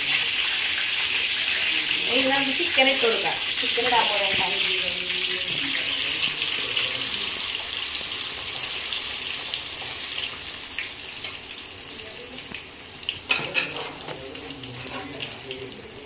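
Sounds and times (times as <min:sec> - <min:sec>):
chicken deep-frying in hot oil: 0:00.0 - 0:16.0.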